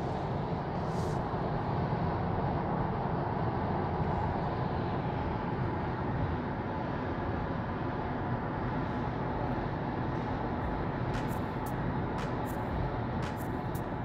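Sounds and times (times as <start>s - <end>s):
road noise inside car cabin: 0.0s - 14.0s.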